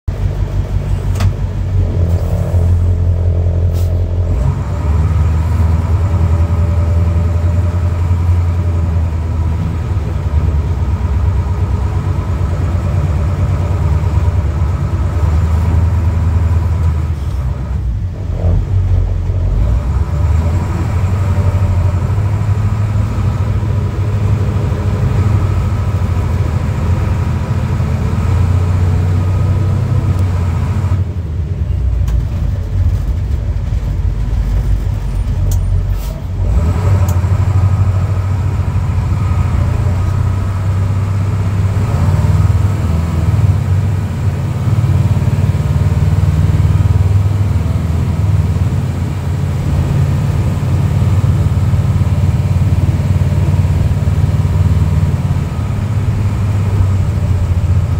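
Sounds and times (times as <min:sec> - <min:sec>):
truck diesel engine rumbling: 0:00.1 - 0:57.9.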